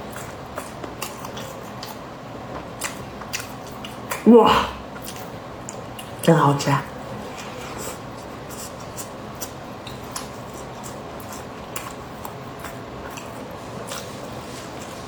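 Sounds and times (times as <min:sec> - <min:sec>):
person chewing bread: 0:00.0 - 0:04.2, 0:04.8 - 0:06.2, 0:07.4 - 0:15.0.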